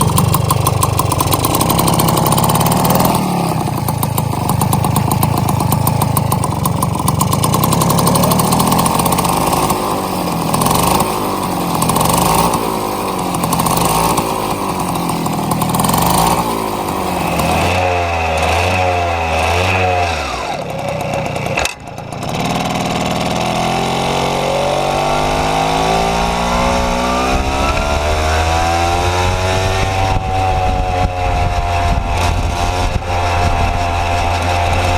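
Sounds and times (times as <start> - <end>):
moped engine revving: 0.0 - 34.9.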